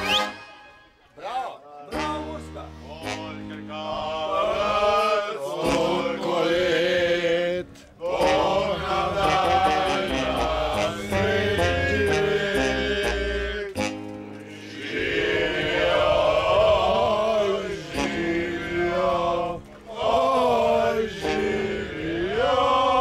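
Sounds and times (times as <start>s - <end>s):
sustained accompanying chords: 1.9s - 23.0s
men singing together: 3.1s - 13.8s, 14.5s - 23.0s.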